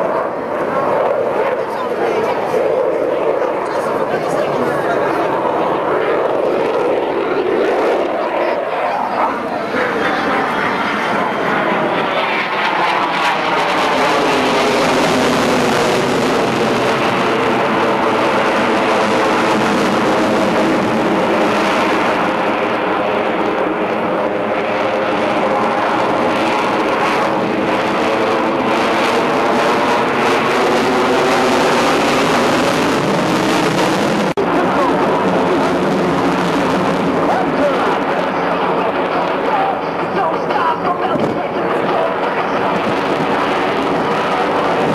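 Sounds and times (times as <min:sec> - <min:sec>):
jet engines roaring overhead: 0:00.0 - 0:44.9.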